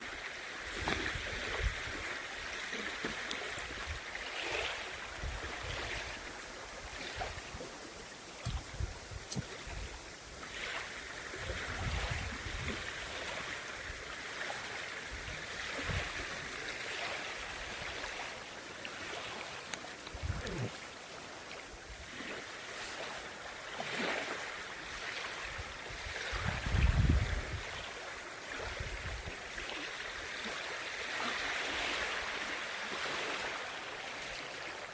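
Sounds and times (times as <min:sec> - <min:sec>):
lake water lapping: 0:00.0 - 0:34.9.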